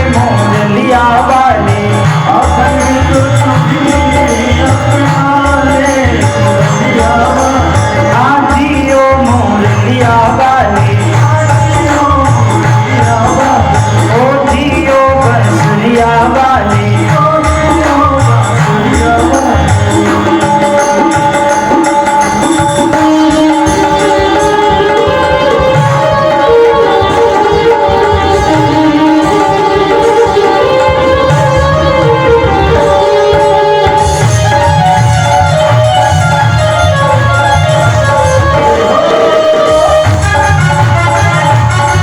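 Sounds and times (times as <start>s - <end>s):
devotional music: 0.0s - 42.0s
light percussion beat: 0.0s - 42.0s.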